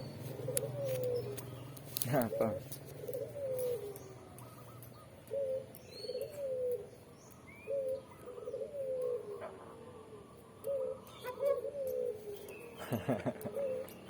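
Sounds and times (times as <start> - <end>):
faint high bird chirps: 0.0 - 9.4, 10.2 - 14.0
dove cooing: 0.0 - 14.0.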